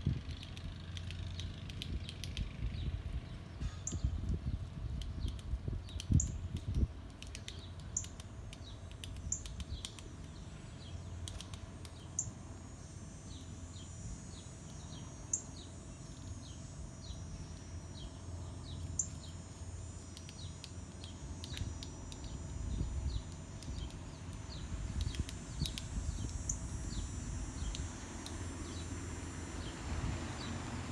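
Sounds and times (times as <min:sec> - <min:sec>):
birds chirping: 0:00.3 - 0:30.9.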